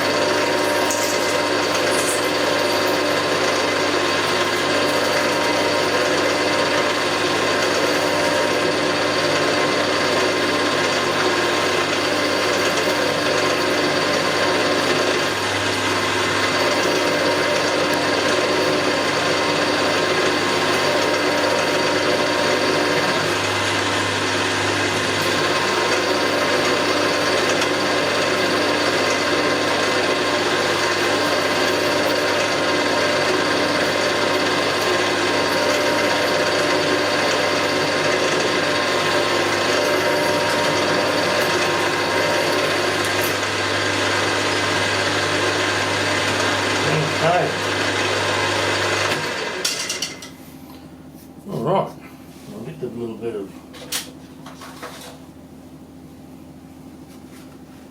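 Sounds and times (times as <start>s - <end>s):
machine tool cutting metal: 0.0s - 50.4s
motor hum: 0.0s - 57.9s.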